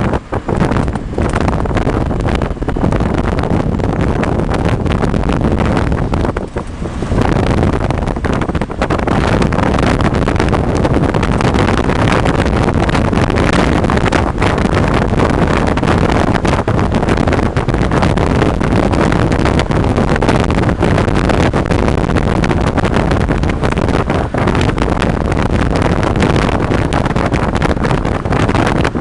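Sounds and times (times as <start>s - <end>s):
vehicle engine running loudly: 0.0s - 29.0s
wind buffeting microphone: 0.0s - 29.0s.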